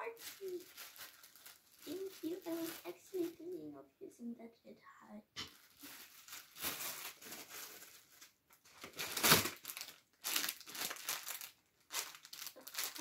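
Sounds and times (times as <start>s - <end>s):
foil and plastic crinkling: 0.0s - 3.6s, 5.5s - 13.0s.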